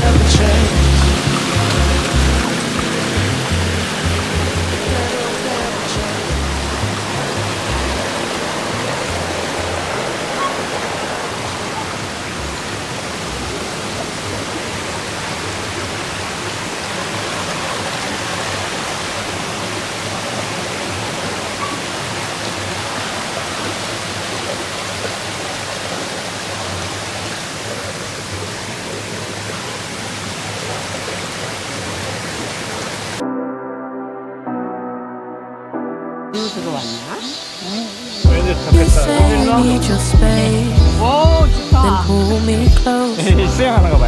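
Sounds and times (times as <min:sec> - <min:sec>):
stream rushing: 0:00.0 - 0:33.2, 0:36.4 - 0:44.0.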